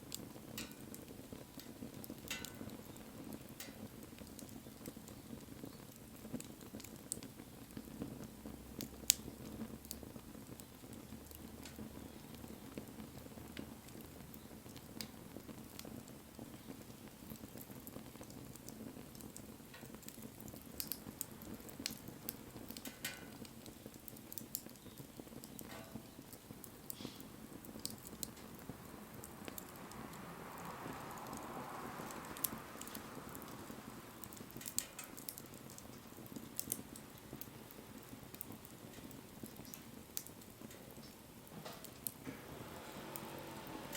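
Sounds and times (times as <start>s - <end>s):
flames hissing: 0.0s - 43.9s
wood fire crackling: 0.0s - 43.9s.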